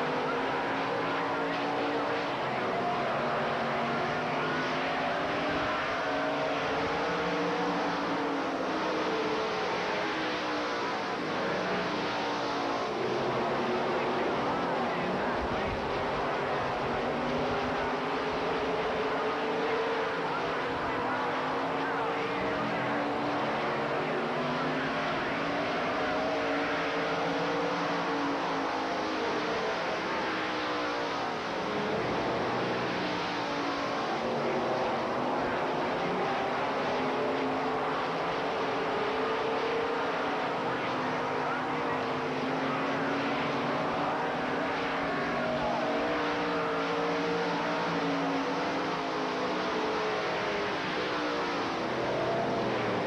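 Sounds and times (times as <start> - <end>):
race car engines: 0.0 - 53.0.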